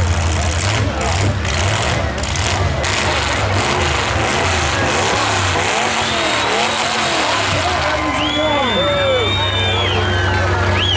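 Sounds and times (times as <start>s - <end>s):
car engines revving: 0.0s - 10.9s.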